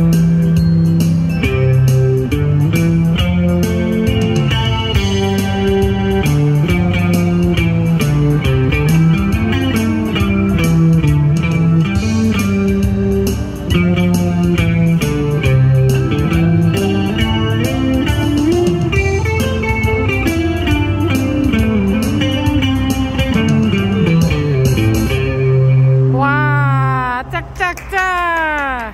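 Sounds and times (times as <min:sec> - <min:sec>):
plucked guitar melody: 0:00.0 - 0:26.2.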